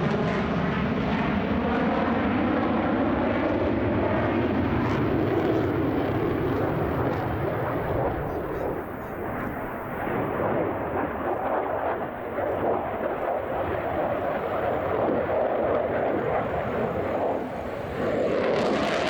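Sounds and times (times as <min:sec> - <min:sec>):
fighter jet engine noise: 0:00.0 - 0:19.0.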